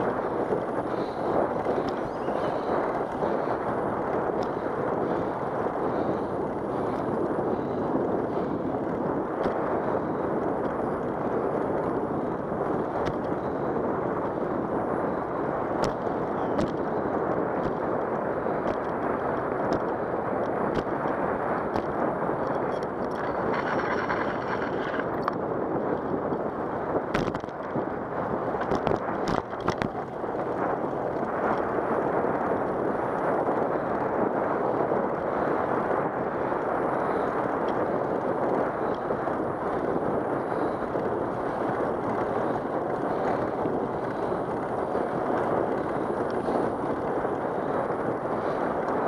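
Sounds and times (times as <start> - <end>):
bicycle tyres rolling on concrete: 0.0 - 49.0
wind rushing over microphone: 0.0 - 49.0.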